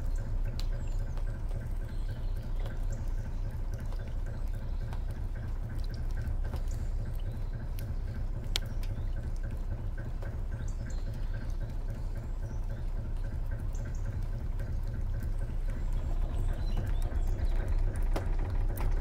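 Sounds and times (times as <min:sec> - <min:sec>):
boat engine rumbling: 0:00.0 - 0:19.0
faint regular engine tick: 0:00.0 - 0:19.0
rain drips: 0:00.0 - 0:19.0.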